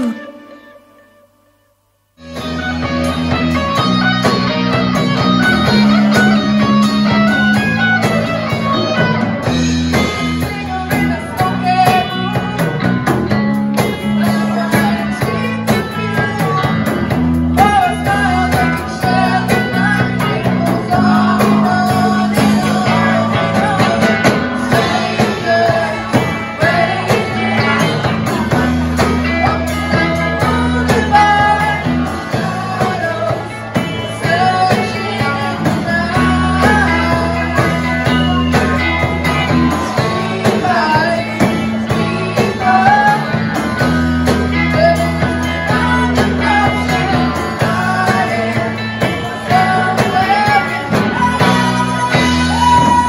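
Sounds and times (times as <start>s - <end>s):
person singing: 0.0s - 1.3s, 2.2s - 53.0s
rock band playing live: 0.0s - 1.3s, 2.2s - 53.0s.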